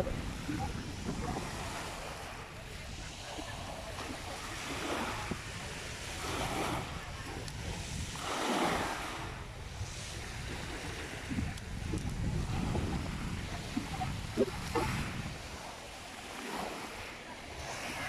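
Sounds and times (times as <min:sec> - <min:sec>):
sea waves washing onto shore: 0:00.0 - 0:18.0
wind rumbling on microphone: 0:00.0 - 0:18.0.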